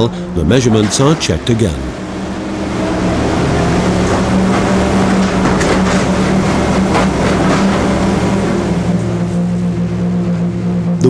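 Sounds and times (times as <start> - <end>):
heavy machinery engines running: 0.0 - 11.0.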